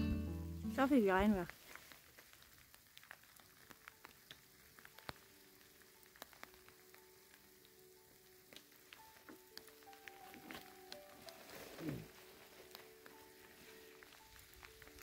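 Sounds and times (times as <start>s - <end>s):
faint background music: 0.0s - 1.6s, 2.8s - 15.0s
raindrops ticking: 0.0s - 15.0s.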